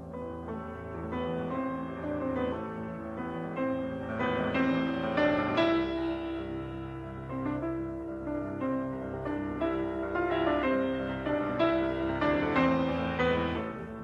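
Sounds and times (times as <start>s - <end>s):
piano background music: 0.0s - 14.0s.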